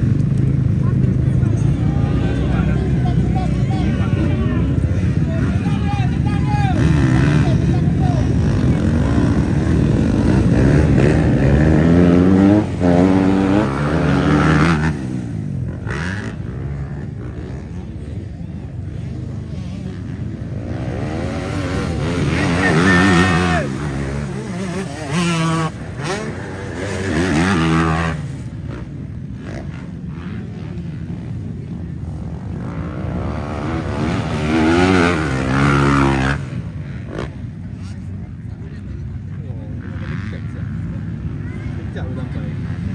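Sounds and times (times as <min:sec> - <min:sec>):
motocross bike engine revving: 0:00.0 - 0:38.2.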